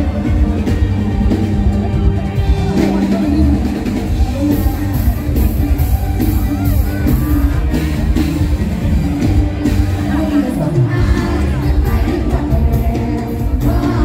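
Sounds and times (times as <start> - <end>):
live band music over loudspeakers: 0.0 - 14.0.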